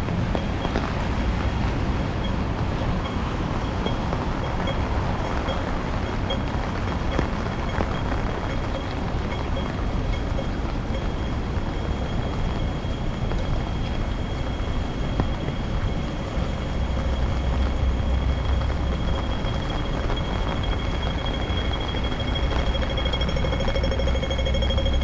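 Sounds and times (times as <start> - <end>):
low rumble: 0.0 - 25.0
wind and rain: 0.0 - 25.0
faint high whine: 3.0 - 25.0.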